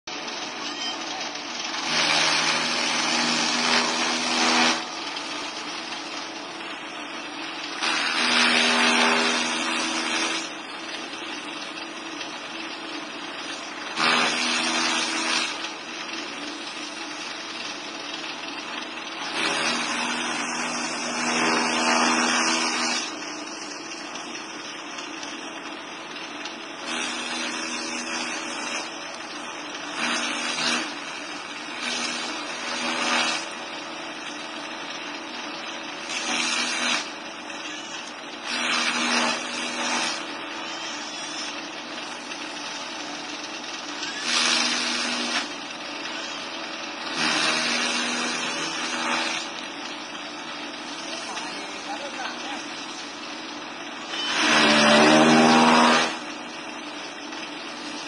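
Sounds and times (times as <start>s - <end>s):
electric chaff cutter running: 0.1s - 58.0s.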